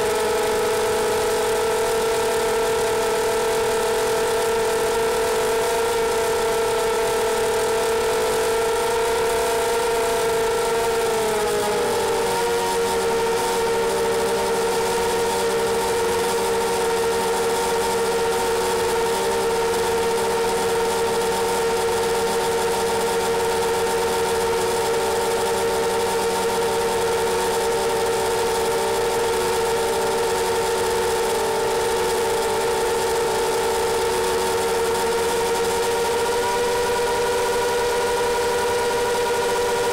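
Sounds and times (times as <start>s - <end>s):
drone motors whining: 4.2s - 39.9s.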